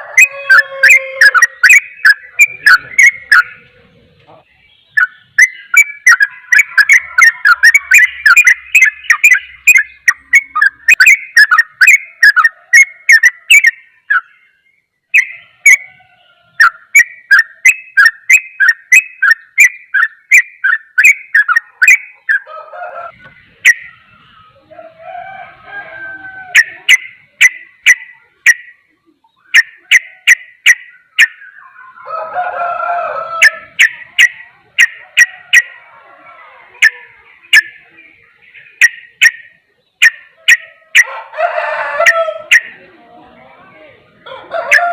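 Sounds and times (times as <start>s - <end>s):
bird chirping: 0.0s - 41.3s, 41.9s - 44.9s.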